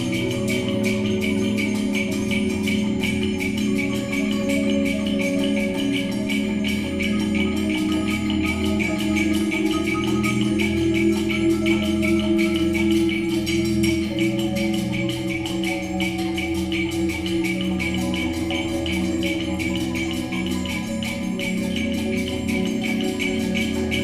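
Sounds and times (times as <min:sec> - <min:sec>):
marimba ensemble playing: 0:00.0 - 0:24.0.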